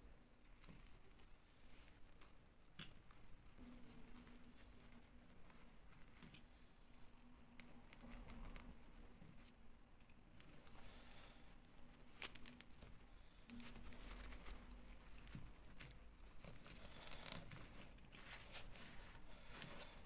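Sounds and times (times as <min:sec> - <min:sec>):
rustling of tulle fabric: 0:00.0 - 0:20.0.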